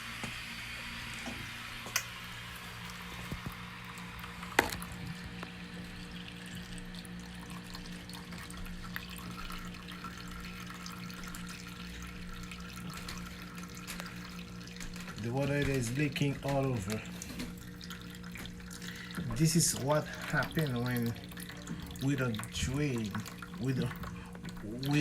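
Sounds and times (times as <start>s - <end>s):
steady low hum: 0.0s - 25.0s
water running and dripping: 1.1s - 25.0s.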